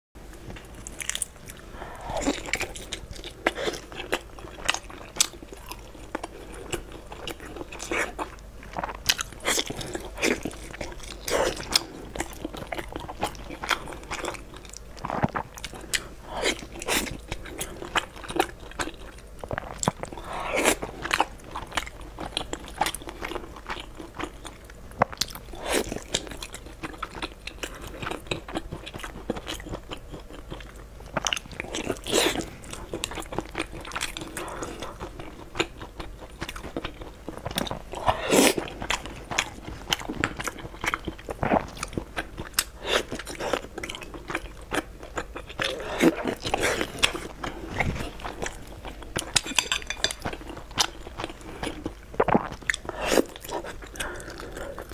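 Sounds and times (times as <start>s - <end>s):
person chewing food: 0.4s - 54.9s.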